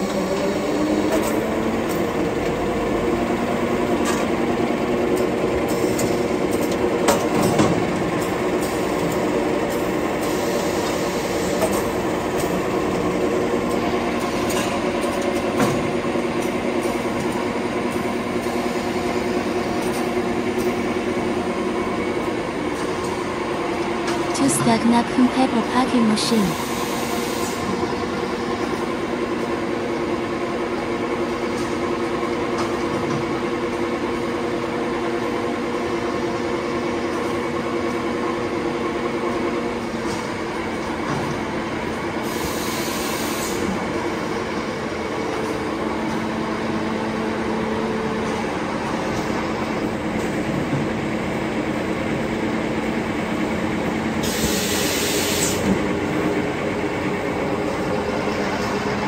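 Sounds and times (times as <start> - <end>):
packing machine humming: 0.0 - 59.0.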